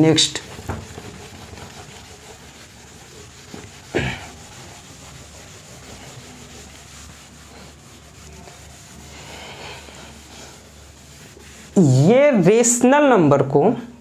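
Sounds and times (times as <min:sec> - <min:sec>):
eraser rubbing on whiteboard: 0:00.0 - 0:12.7.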